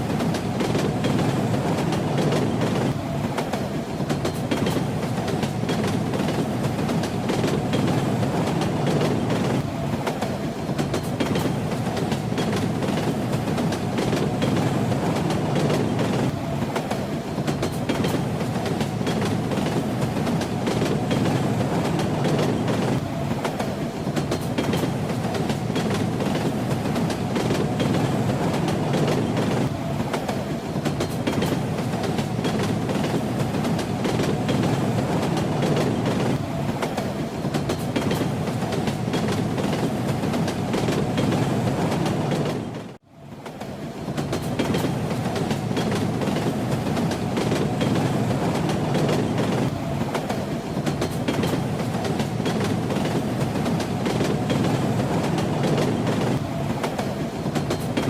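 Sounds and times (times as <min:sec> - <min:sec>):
wheels clacking over rail joints: 0:00.0 - 0:42.8, 0:43.5 - 0:58.0
railway car rumble: 0:00.0 - 0:58.0.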